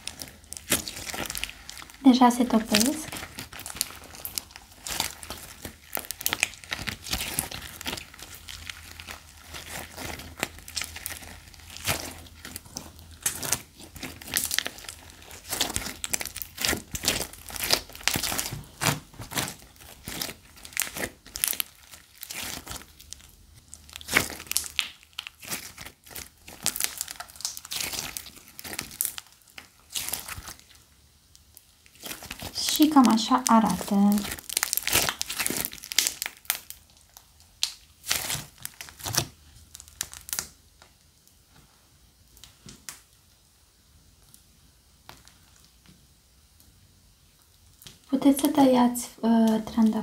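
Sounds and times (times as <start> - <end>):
wet slime crackles: 0.0 - 50.0.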